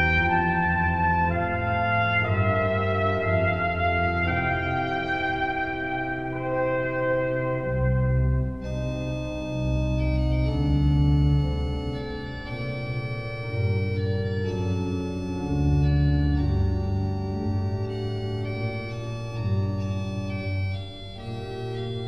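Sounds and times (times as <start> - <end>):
organ music: 0.0 - 22.0.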